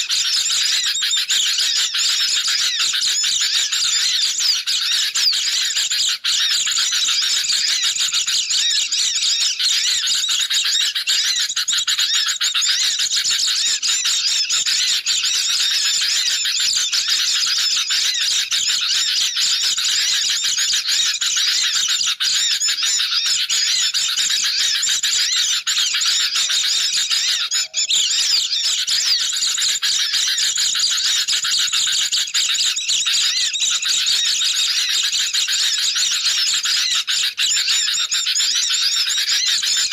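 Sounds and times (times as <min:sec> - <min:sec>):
birds chattering and twittering: 0:00.0 - 0:39.9.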